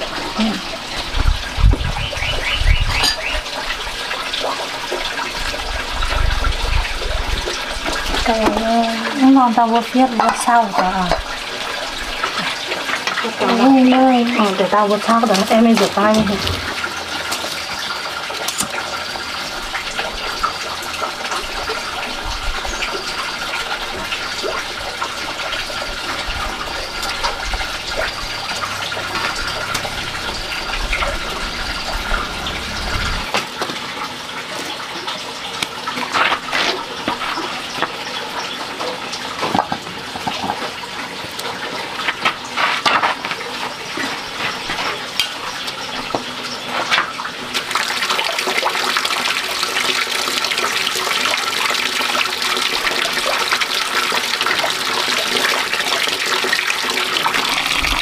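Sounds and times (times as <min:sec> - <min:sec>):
water running: 0:00.0 - 0:58.0.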